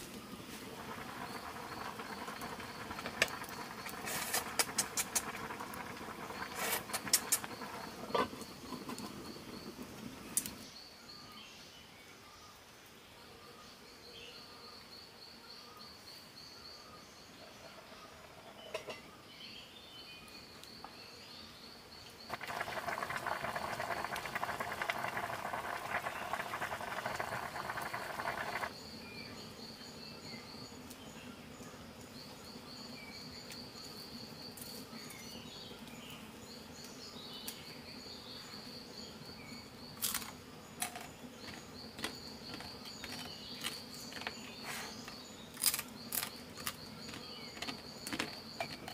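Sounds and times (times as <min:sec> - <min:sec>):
insects chirping trill: 0:00.0 - 0:11.4, 0:13.9 - 0:48.9.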